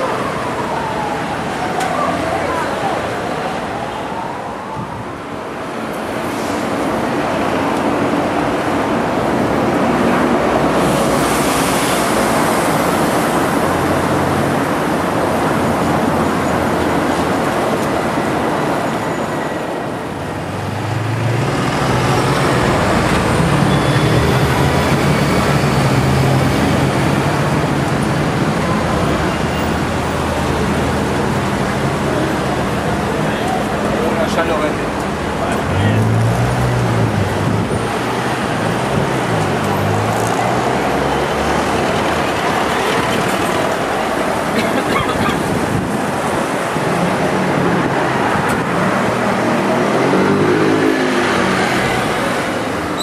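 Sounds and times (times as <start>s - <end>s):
passing cars and buses: 0.0s - 53.0s.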